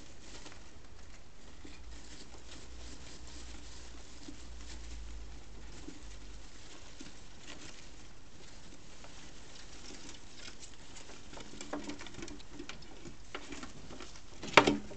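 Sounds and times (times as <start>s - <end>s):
small animals scratching in bedding: 0.0s - 14.9s.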